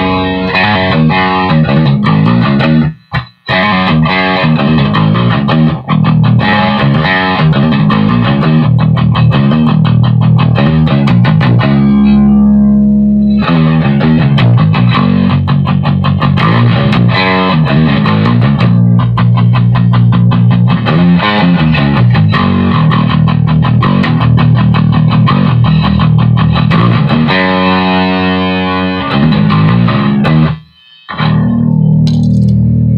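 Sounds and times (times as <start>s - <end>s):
distorted electric bass: 0.0s - 32.9s.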